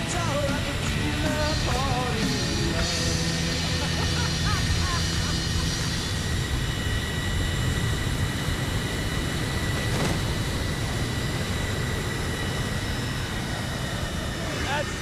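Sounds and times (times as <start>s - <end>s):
high steady whine: 0.0s - 15.0s
jet engine running: 0.0s - 15.0s.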